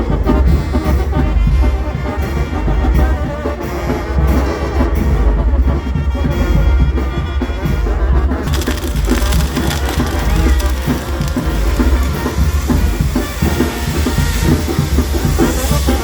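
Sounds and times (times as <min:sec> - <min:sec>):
drums: 0:00.0 - 0:16.0.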